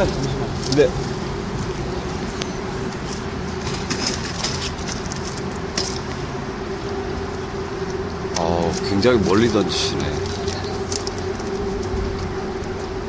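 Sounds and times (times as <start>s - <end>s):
constant low hum: 0.0s - 13.0s
distant city traffic rumble: 0.0s - 13.0s.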